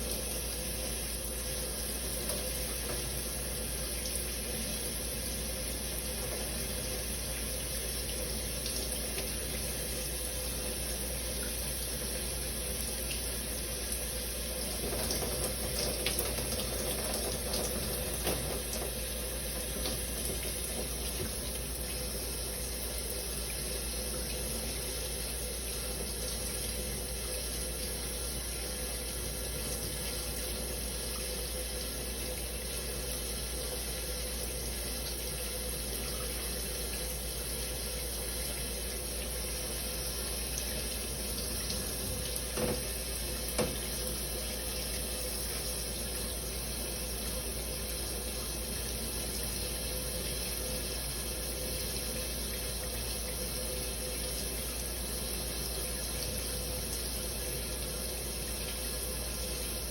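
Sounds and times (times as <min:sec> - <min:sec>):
shower spray running: 0:00.0 - 0:59.9.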